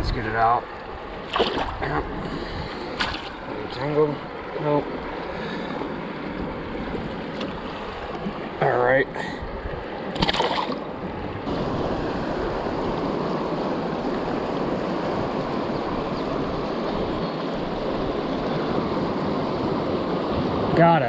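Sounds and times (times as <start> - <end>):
river water rushing: 0.3 - 21.0.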